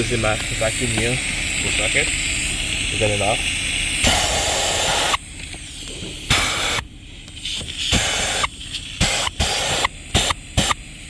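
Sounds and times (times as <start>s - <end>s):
vacuum cleaner air hissing: 0.0s - 11.0s
vacuum motor rumble: 0.0s - 11.0s.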